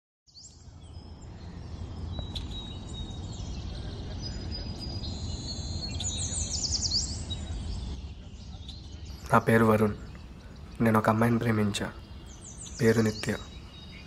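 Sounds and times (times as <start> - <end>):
birds chirping: 0.3 - 14.0.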